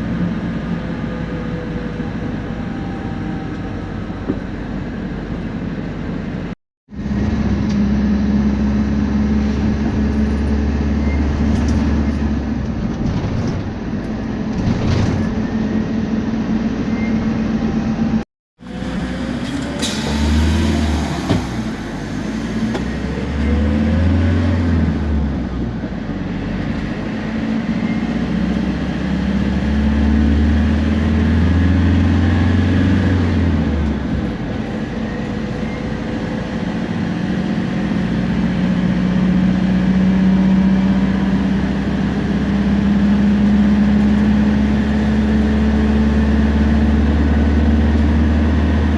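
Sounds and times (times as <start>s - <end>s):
bus diesel engine droning: 0.0s - 48.9s.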